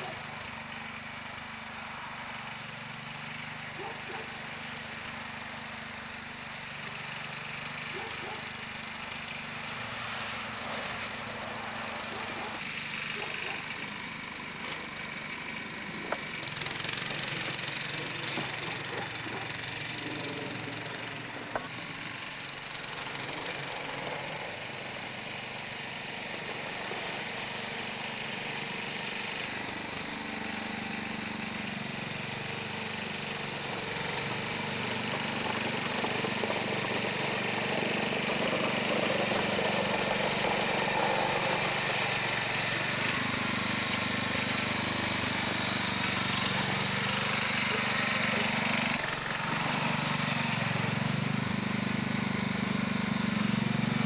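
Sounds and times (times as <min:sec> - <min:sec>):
garden tractor engine running: 0:00.0 - 0:54.0
snow plow blade pushing snow: 0:00.0 - 0:54.0.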